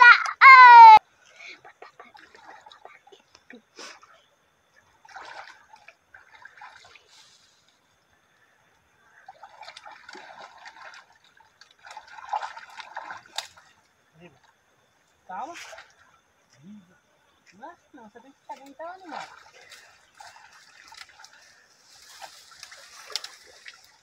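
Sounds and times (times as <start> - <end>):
water splashing and sloshing: 1.2 - 3.7, 4.3 - 16.6, 17.4 - 24.0.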